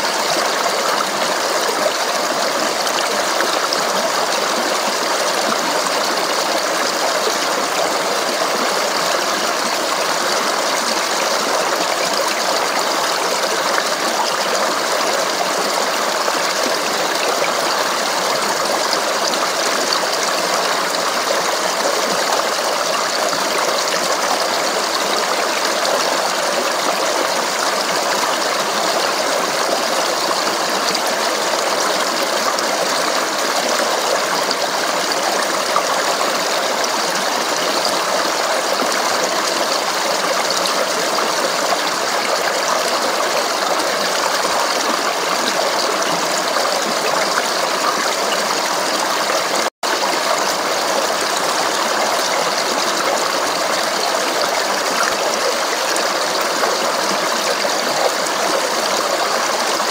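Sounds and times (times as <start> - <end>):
babbling stream: 0.0 - 59.9.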